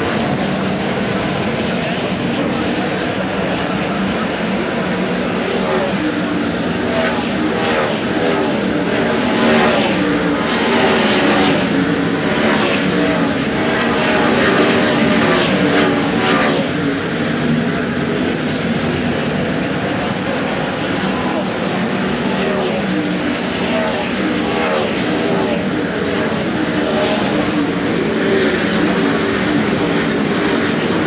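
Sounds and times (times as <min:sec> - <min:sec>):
race car engines at high revs: 0:00.0 - 0:31.0.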